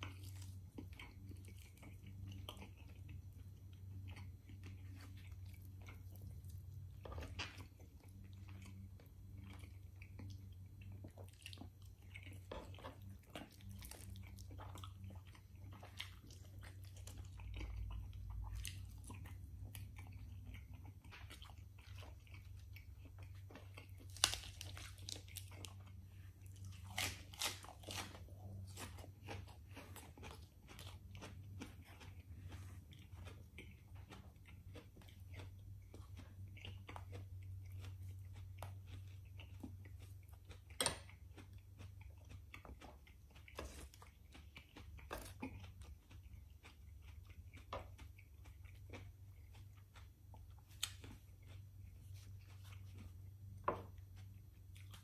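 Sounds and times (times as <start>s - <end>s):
chewing with wet mouth clicks: 0.0s - 55.0s.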